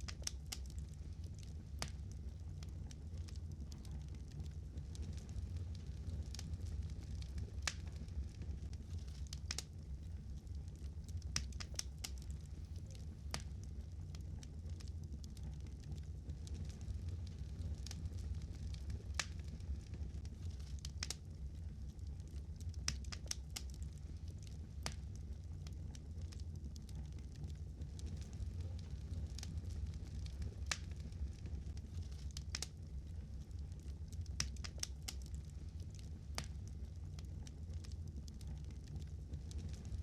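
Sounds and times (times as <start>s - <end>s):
fire crackling and popping: 0.0s - 40.0s
low rumble: 0.0s - 40.0s.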